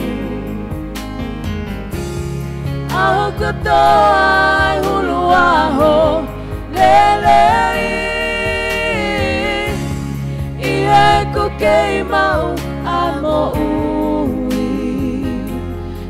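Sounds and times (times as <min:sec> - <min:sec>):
voices singing a hymn: 0:00.0 - 0:00.9, 0:02.9 - 0:16.0
sustained accompaniment: 0:00.0 - 0:14.0.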